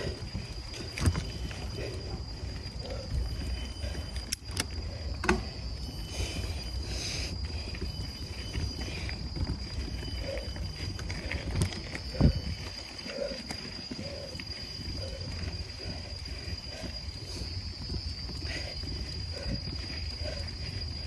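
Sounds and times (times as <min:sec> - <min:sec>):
steady high-pitched tone: 0:00.0 - 0:21.0.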